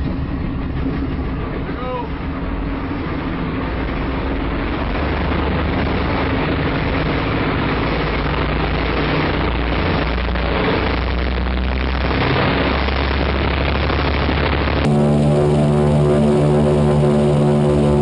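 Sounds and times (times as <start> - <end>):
radial engines droning: 0.0 - 18.0.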